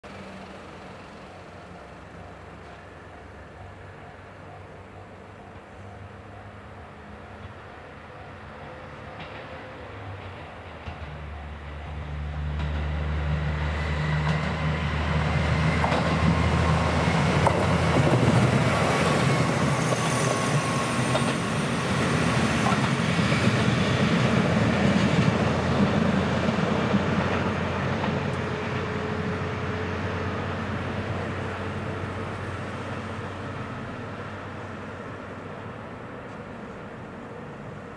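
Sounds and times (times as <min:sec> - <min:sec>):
diesel railcar passing: 0:00.0 - 0:37.9.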